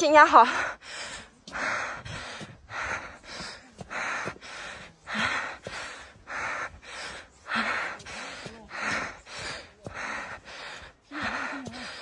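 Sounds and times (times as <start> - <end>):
heavy quick breathing: 0.5 - 12.0.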